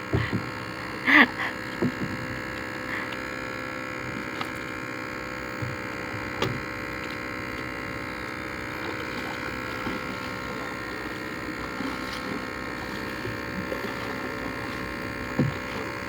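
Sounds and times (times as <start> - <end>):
steady buzzing hum: 0.0 - 16.0.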